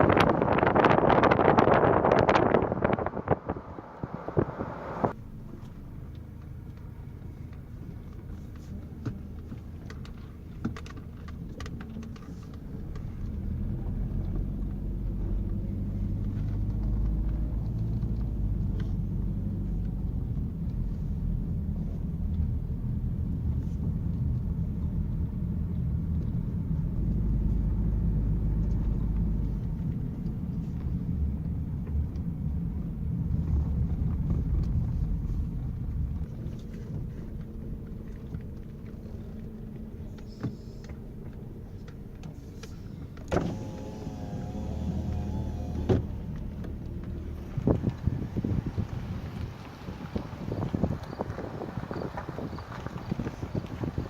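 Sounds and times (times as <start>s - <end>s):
engine rumbling: 0.0s - 54.0s.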